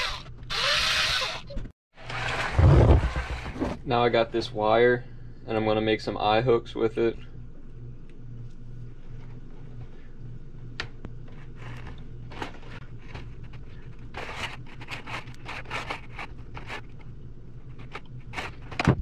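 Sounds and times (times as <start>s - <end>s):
steady low hum: 2.4s - 19.0s.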